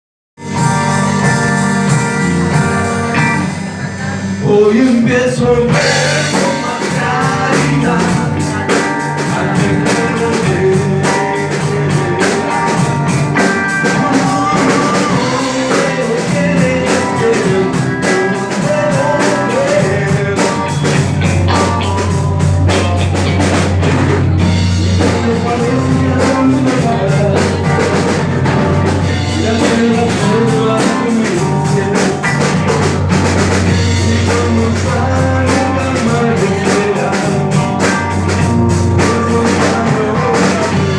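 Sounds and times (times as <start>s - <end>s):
drum kit beat: 0.4s - 40.9s
electric guitar: 0.4s - 40.9s.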